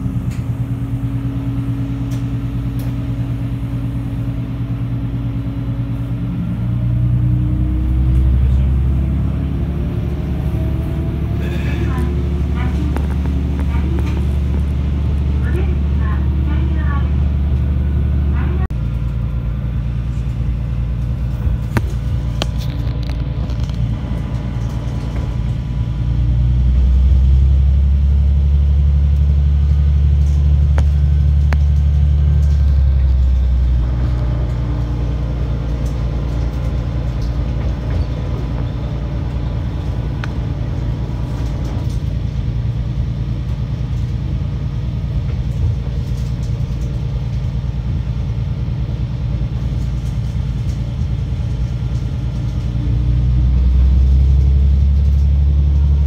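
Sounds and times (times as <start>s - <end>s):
diesel railcar engine rumble: 0.0s - 56.0s.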